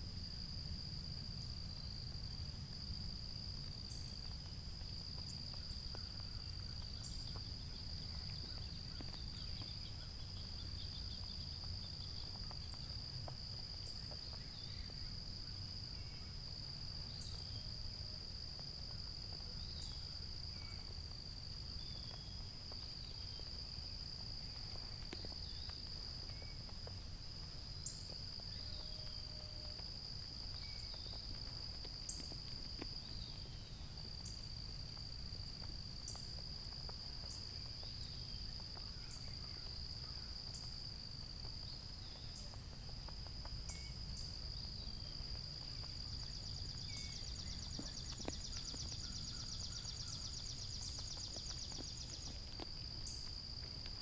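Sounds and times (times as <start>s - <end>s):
insect trill: 0.0s - 54.0s.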